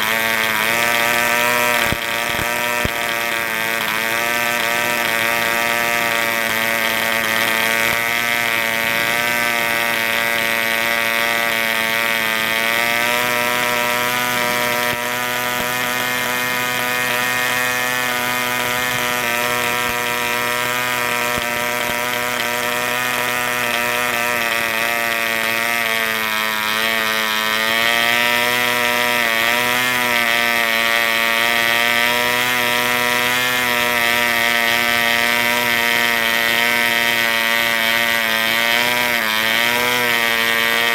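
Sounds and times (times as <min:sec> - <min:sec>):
model engine running at high speed: 0:00.0 - 0:40.9.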